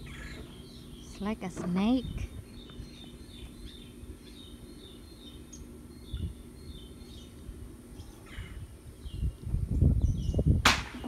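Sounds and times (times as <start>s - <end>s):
birds chirping: 0.0s - 11.0s
steady low hum: 0.0s - 11.0s.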